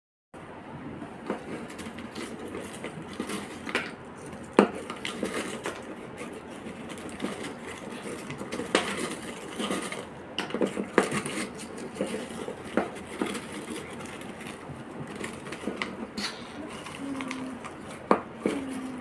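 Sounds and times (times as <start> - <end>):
crisps rustling in a bowl: 1.4 - 19.0.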